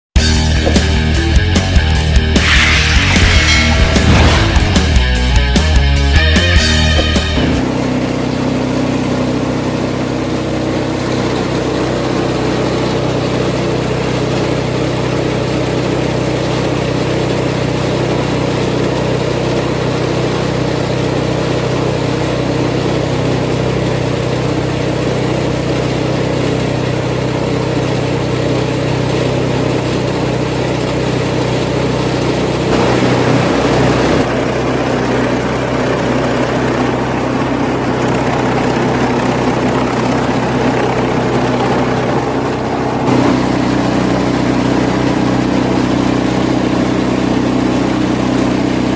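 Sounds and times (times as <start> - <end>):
engine-driven chopping machine running: 0.2 - 48.9.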